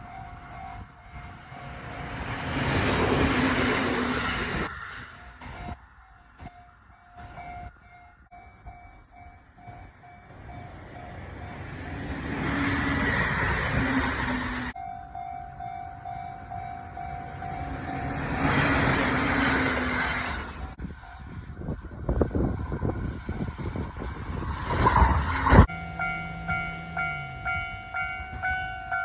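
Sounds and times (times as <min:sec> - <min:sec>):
train wheels rushing on rails: 0:00.0 - 0:14.8, 0:15.5 - 0:29.0.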